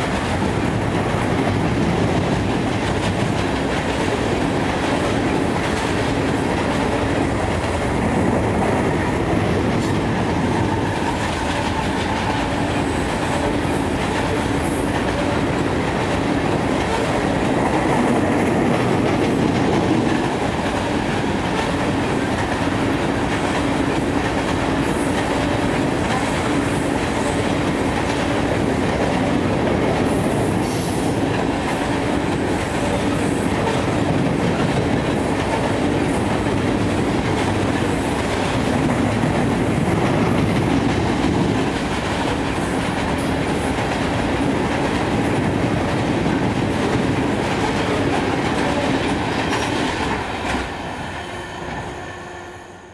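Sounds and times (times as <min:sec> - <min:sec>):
clickety-clack over rail joints: 0:00.0 - 0:52.0
train wheels rumbling on rail: 0:00.0 - 0:52.9.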